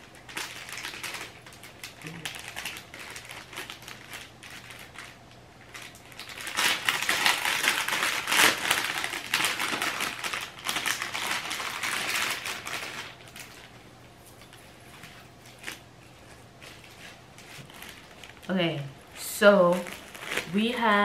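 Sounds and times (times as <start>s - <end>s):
plastic packet crinkling: 0.0s - 21.0s.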